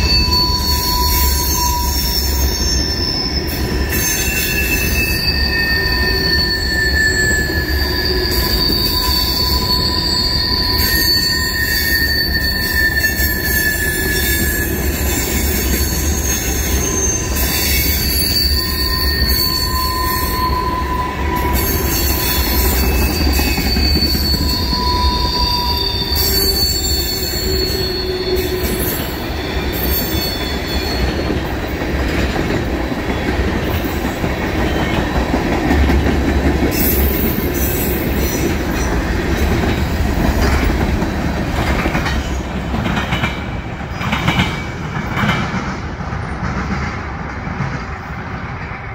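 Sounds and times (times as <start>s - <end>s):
train wheels squealing: 0.0s - 45.3s
rumble of wheels on rail: 0.0s - 48.9s.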